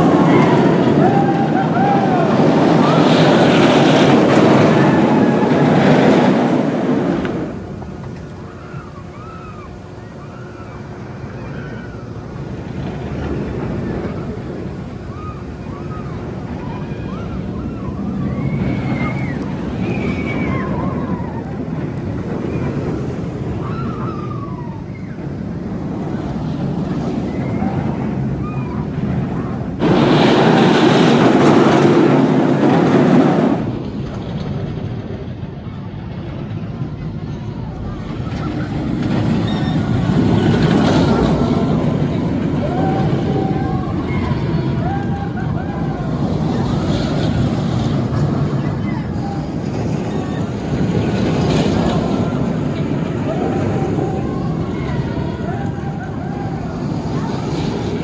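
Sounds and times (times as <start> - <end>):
rising and falling tonal calls: 0.0 - 34.0, 36.6 - 58.0
roller coaster rumbling: 0.0 - 58.0.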